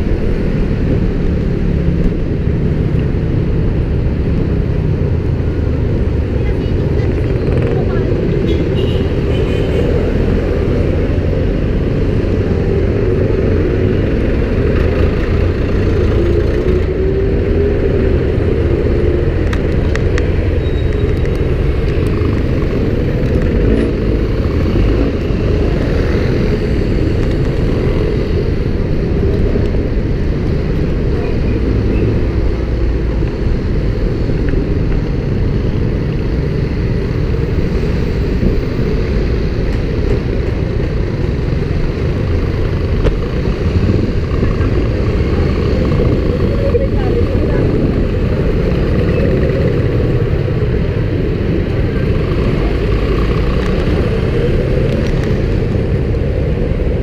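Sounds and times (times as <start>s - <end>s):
passing cars and motorcycles: 0.0s - 57.0s
wind rumble on microphone: 0.0s - 57.0s.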